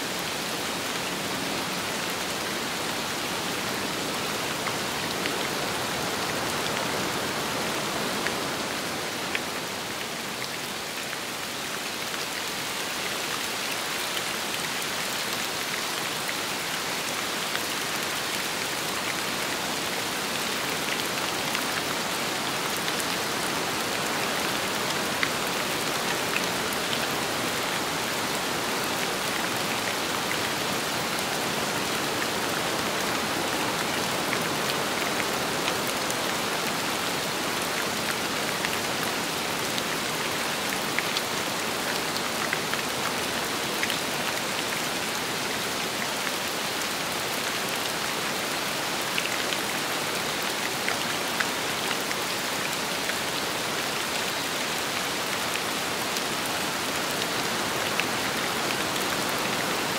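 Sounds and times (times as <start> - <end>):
rain falling: 0.0 - 59.9
wind: 0.0 - 59.9.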